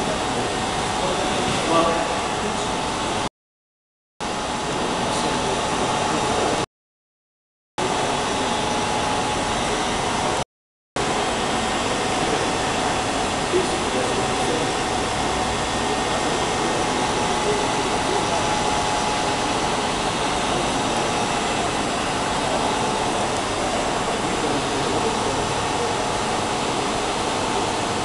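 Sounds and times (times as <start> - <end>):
machine running with faint whine: 0.0 - 3.3, 4.2 - 6.6, 7.8 - 10.4, 11.0 - 28.0.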